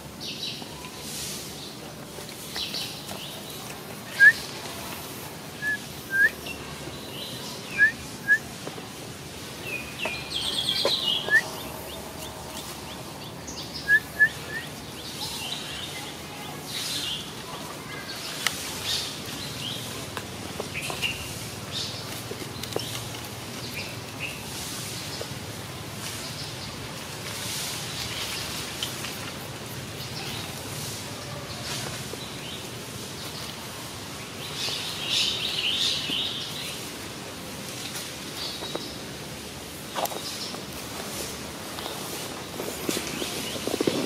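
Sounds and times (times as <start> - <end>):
birds chirping: 0.0 - 27.1, 27.7 - 37.0, 38.2 - 44.0
outdoor background noise: 0.0 - 44.0.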